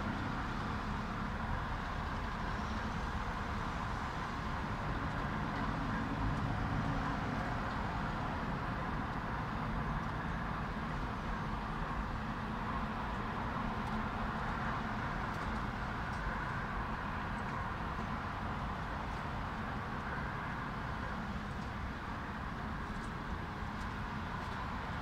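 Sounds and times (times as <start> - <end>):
distant road traffic hum: 0.0 - 25.0.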